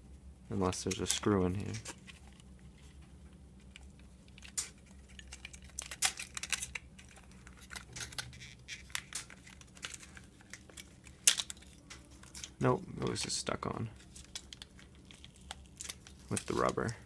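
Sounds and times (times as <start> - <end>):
small clicks and crackles: 0.8 - 13.2, 14.0 - 17.0.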